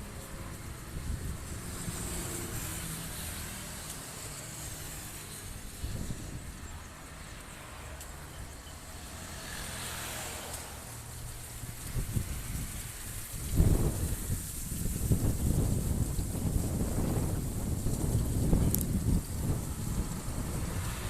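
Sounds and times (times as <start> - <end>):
gusty wind buffeting microphone: 0.0 - 7.6, 10.9 - 21.0.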